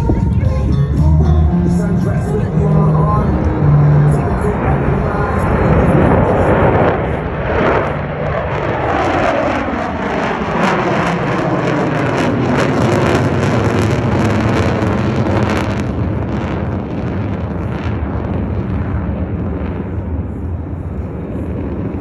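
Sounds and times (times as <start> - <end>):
jet roar: 1.5 - 22.0.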